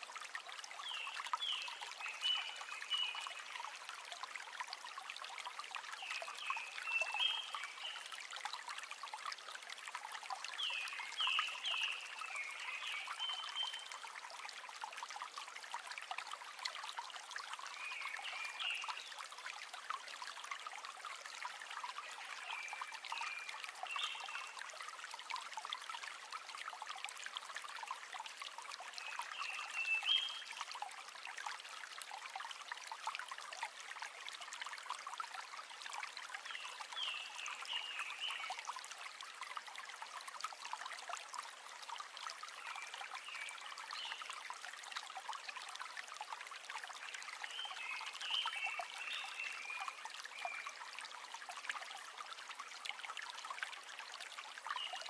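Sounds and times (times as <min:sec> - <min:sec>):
river trickling and babbling: 0:00.0 - 0:55.0.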